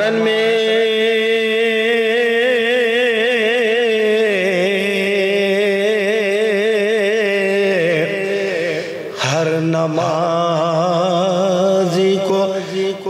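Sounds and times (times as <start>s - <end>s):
man reciting in a long ornamented note: 0.0s - 13.0s.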